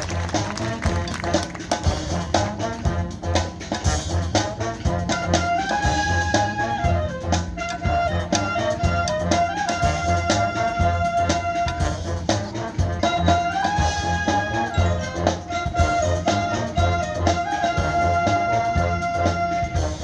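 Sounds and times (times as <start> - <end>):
drum-line beat: 0.0 - 20.0
marching band brass: 0.0 - 20.0.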